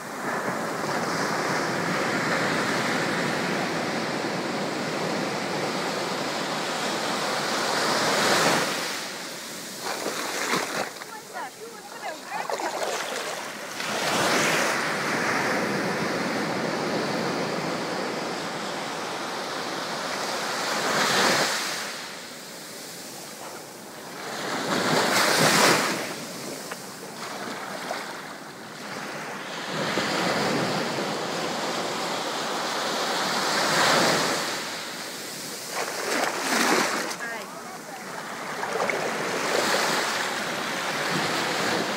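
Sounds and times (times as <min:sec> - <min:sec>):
surf washing at water's edge: 0:00.0 - 0:41.9.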